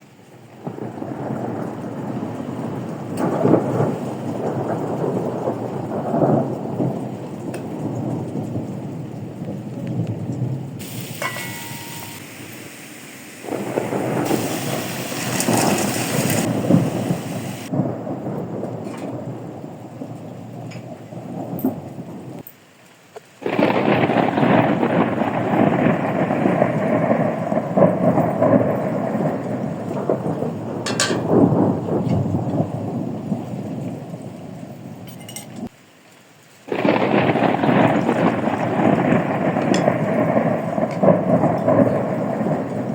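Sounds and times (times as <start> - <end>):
heavy rain: 0.0 - 42.9
thunder rumbling: 0.3 - 22.5, 23.4 - 35.7, 36.7 - 42.9.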